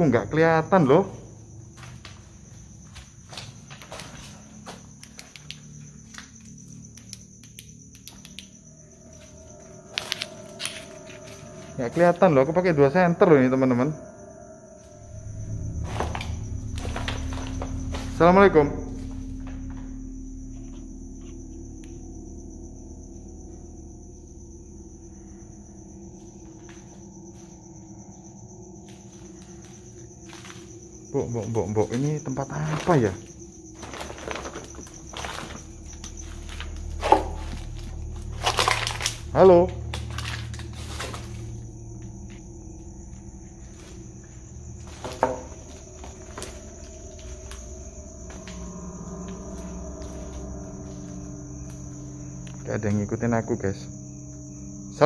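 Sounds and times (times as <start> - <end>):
crickets trilling: 0.0 - 55.0
low steady hum: 4.4 - 55.0.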